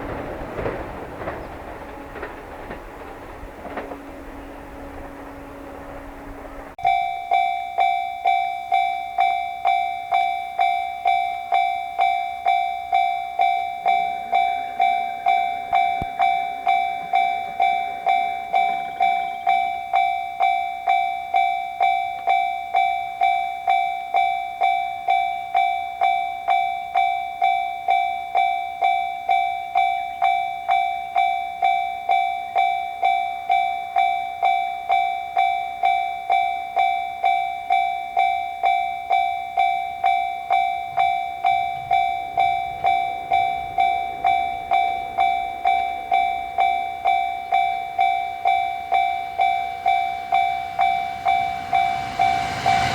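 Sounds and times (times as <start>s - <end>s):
railroad crossing warning bell: 0.0s - 52.9s.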